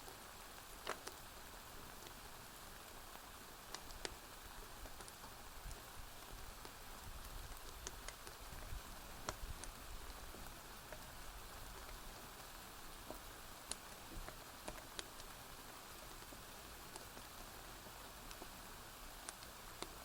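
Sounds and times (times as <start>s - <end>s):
rain hiss: 0.0s - 20.0s
wood fire crackling and popping: 0.0s - 20.0s.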